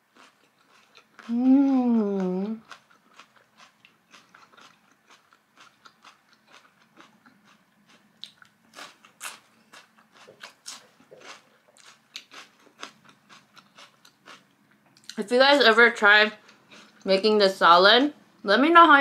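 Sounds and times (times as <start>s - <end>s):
person chewing food: 0.0s - 15.2s, 16.4s - 17.1s.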